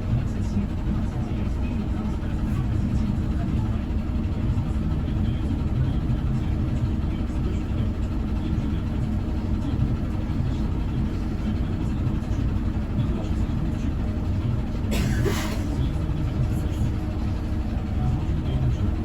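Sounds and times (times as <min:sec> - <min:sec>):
bus engine rumble inside cabin: 0:00.0 - 0:19.0.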